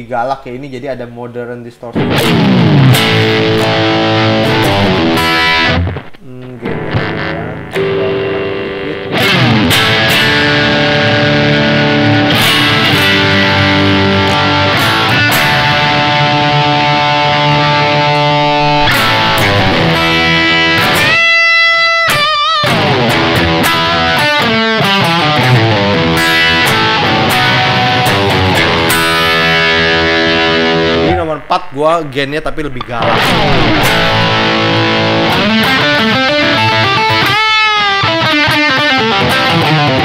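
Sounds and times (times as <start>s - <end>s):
distorted electric guitar: 2.0s - 40.0s.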